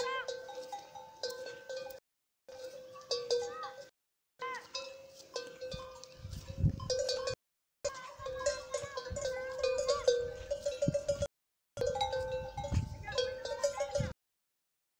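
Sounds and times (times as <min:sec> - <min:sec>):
metal animal bells clanking: 0:00.0 - 0:14.2.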